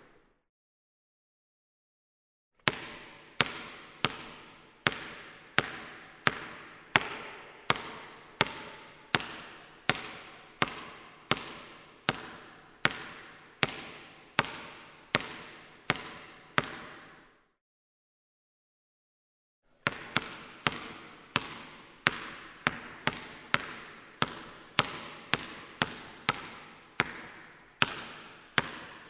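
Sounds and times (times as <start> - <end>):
ball bouncing in echoing court: 2.6 - 17.5, 19.7 - 29.0.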